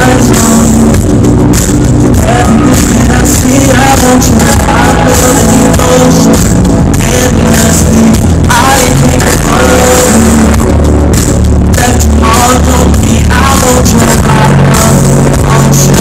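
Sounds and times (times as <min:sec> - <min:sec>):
rapping over a beat: 0:00.0 - 0:01.0, 0:02.2 - 0:10.6, 0:11.7 - 0:16.0.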